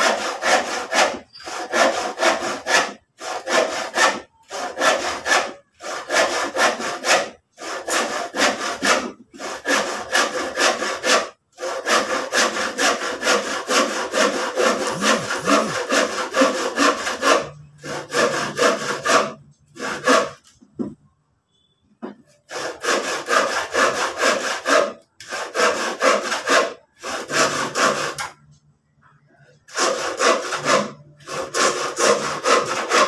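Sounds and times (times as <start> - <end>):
hand saw cutting wood: 0.0 - 20.6, 22.5 - 28.4, 29.7 - 33.0.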